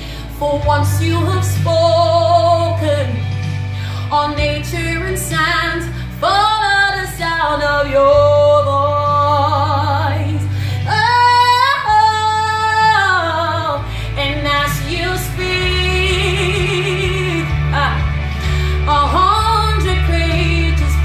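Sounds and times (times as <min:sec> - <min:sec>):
woman singing with vibrato: 0:00.0 - 0:03.3, 0:04.0 - 0:21.0
backing track of low chords: 0:00.0 - 0:21.0.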